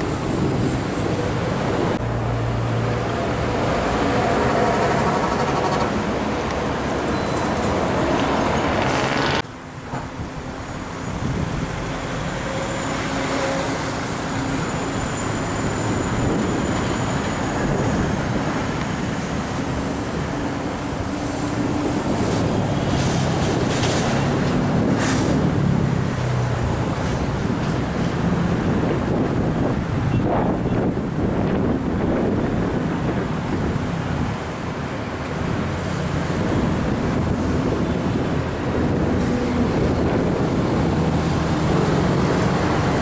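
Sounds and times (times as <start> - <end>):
heavy traffic passing: 0.0 - 43.0.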